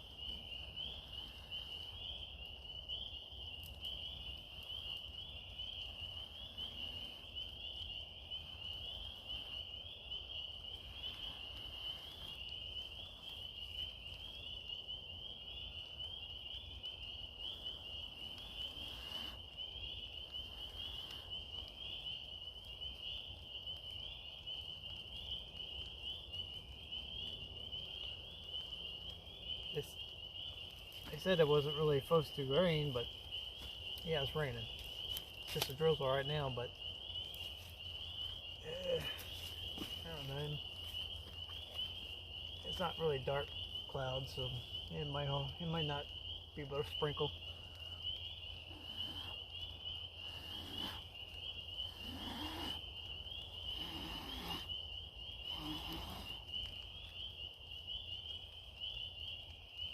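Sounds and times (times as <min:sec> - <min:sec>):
frogs or insects trilling: 0:00.0 - 0:59.9.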